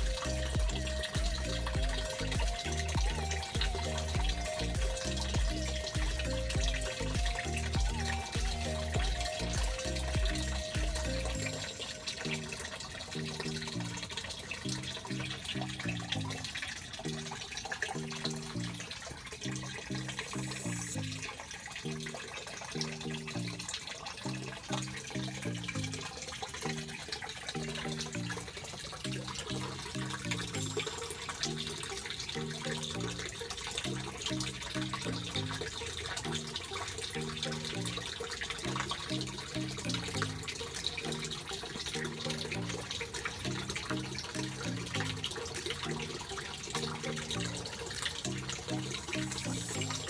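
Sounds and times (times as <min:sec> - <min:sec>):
low melody of repeating notes: 0:00.0 - 0:50.0
water rushing through siphon hose: 0:00.0 - 0:50.0.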